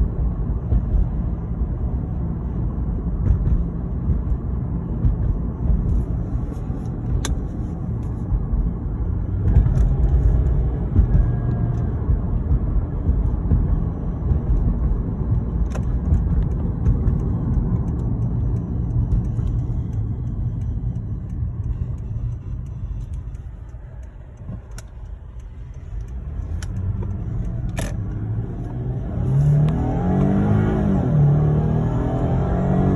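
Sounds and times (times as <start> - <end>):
car engine rumbling: 0.0 - 32.9.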